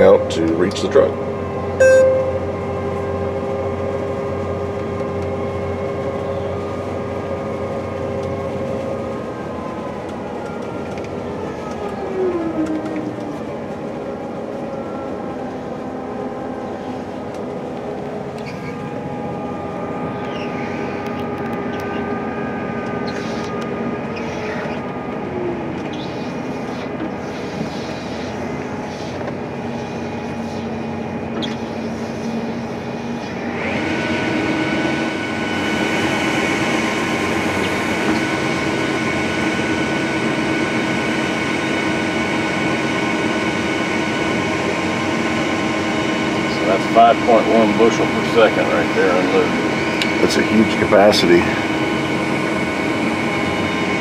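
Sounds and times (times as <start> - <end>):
combine harvester humming: 0.0 - 9.7, 11.9 - 54.0.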